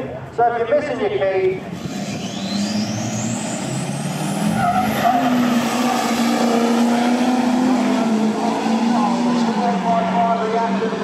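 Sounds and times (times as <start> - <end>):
trucks accelerating at full throttle: 1.0 - 11.0.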